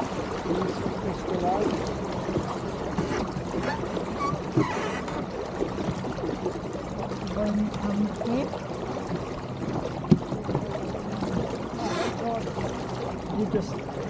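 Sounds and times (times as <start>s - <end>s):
water lapping along a hull: 0.0s - 14.0s.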